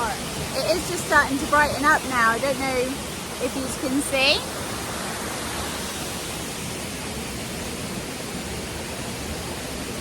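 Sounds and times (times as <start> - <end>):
waterfall and river rushing: 0.0 - 10.0.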